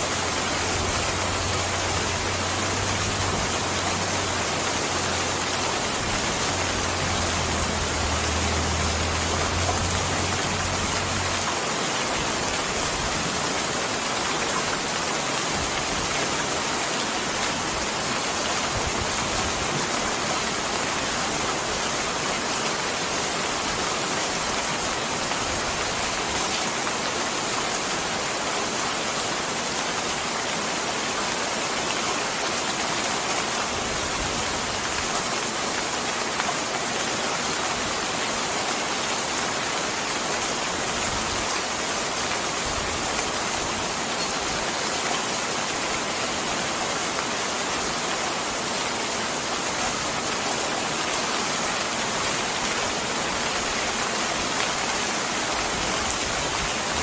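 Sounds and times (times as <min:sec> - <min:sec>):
steady rain pouring: 0:00.0 - 0:57.0.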